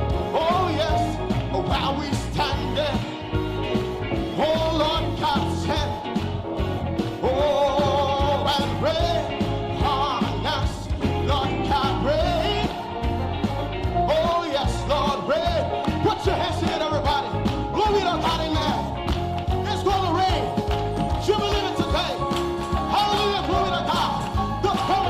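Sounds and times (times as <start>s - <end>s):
upbeat gospel band music: 0.0s - 25.0s.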